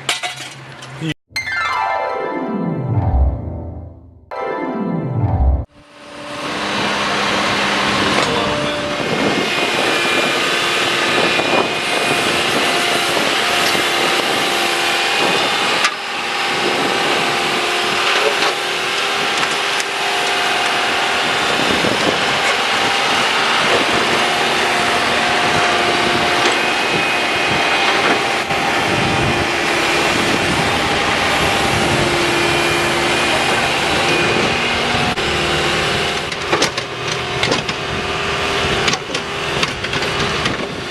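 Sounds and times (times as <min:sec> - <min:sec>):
backhoe engine whining: 0:05.2 - 0:40.9.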